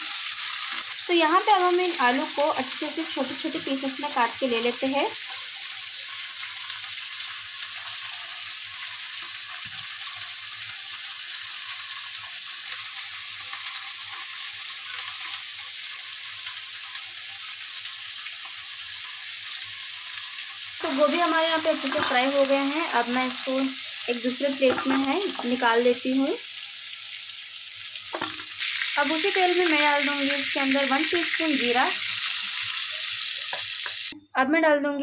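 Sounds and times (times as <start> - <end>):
vegetables sizzling in hot oil: 0.0 - 34.2.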